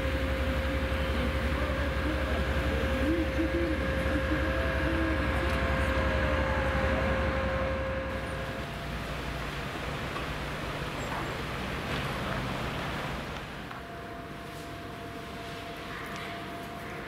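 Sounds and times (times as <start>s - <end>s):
diesel locomotive engine throb: 0.0s - 17.0s
outdoor noise: 0.0s - 17.0s
steady whine: 0.0s - 17.0s.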